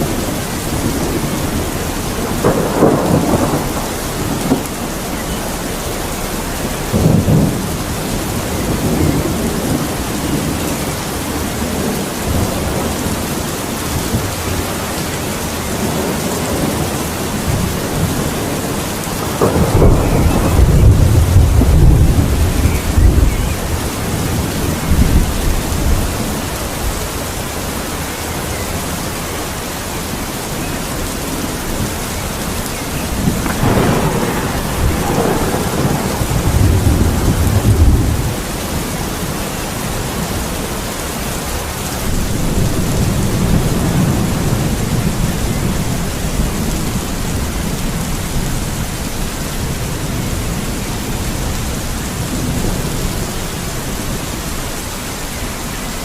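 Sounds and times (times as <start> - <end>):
thunder rolling: 0.0 - 27.0, 31.4 - 40.8, 41.4 - 54.3
heavy rain: 0.0 - 56.0.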